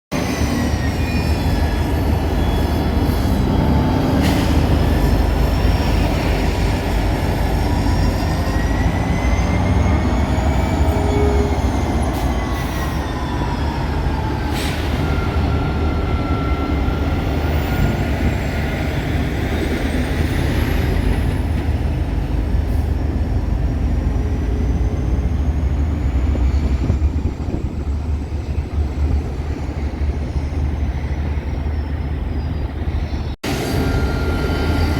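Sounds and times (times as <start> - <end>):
train wheels rumbling on rail: 0.1 - 34.9.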